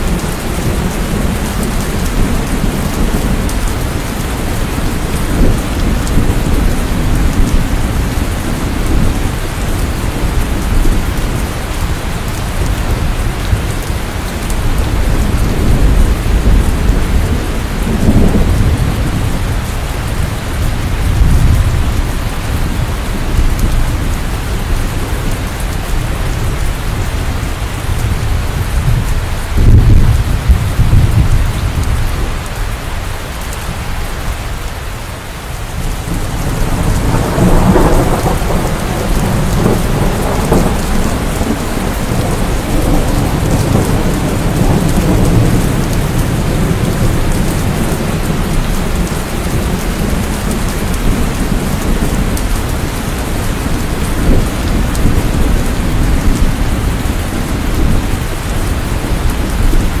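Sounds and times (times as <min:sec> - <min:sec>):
heavy rain: 0:00.0 - 1:00.0
thunder rumbling: 0:00.0 - 1:00.0.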